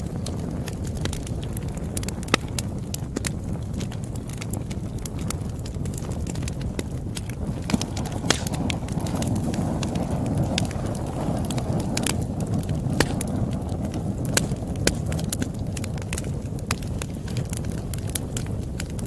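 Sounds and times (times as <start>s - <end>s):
burning wood popping and snapping: 0.0s - 19.0s
low rush of flames: 0.0s - 19.0s.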